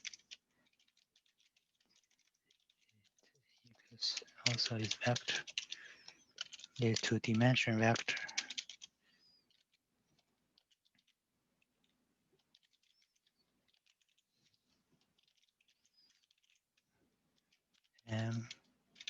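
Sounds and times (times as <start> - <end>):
keyboard typing: 0.0 - 11.2, 12.4 - 16.6.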